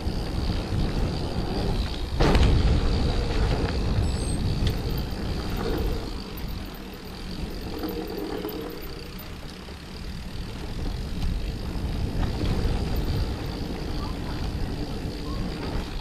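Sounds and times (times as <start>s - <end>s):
bike tyres on dirt: 0.0s - 16.0s
wind on microphone: 0.0s - 16.0s.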